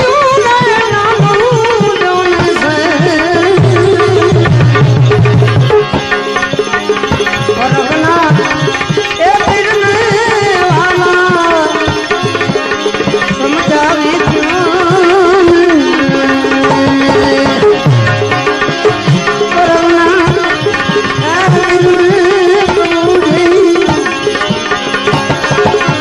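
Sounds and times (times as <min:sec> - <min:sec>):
tabla keeping time: 0:00.0 - 0:26.0.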